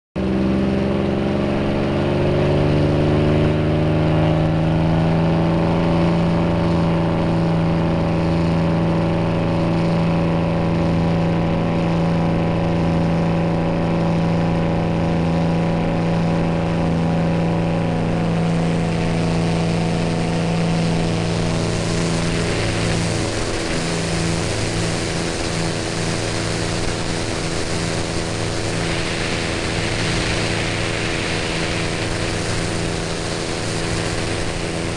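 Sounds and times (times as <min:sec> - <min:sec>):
propeller airplane engine: 0:00.2 - 0:34.9
rushing wind: 0:01.0 - 0:34.9.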